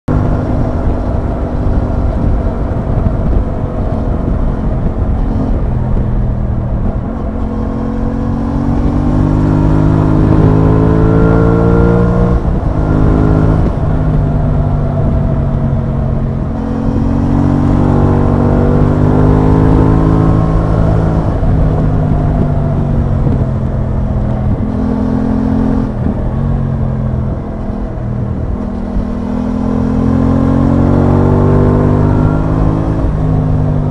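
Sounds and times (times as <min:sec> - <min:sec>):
wind and road noise: 0:00.0 - 0:33.9
motorcycle engine accelerating: 0:00.1 - 0:33.9.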